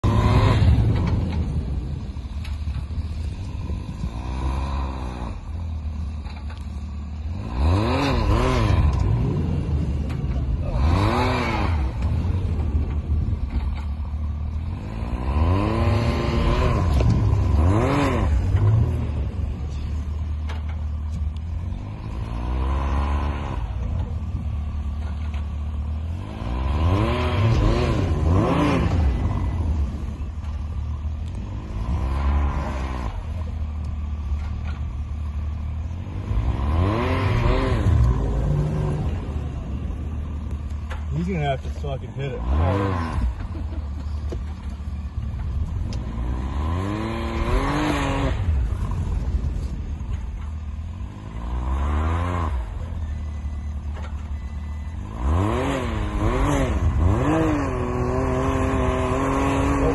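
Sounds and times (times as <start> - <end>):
engines revving: 0.0 - 59.9.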